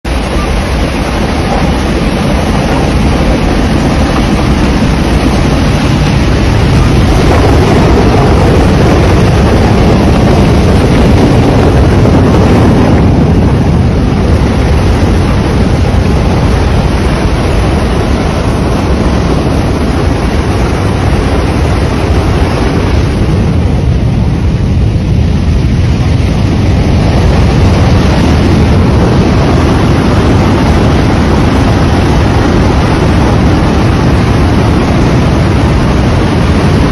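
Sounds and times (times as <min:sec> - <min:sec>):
debris flow rumbling: 0:00.1 - 0:36.9.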